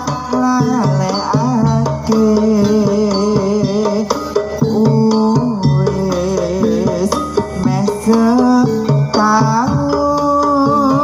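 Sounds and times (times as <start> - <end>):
gamelan music: 0.0 - 11.0
hand-drum strokes: 0.0 - 11.0.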